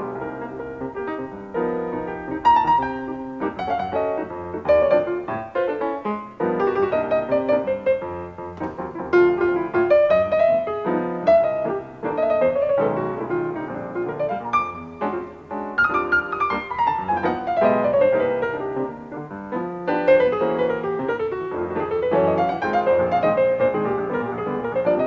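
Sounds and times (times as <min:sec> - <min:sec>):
two pianos playing jazz: 0:00.0 - 0:25.0.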